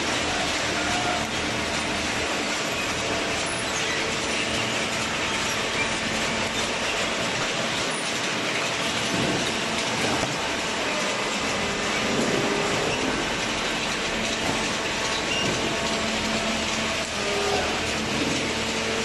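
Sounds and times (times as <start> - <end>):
baler machine clattering: 0.0 - 19.0.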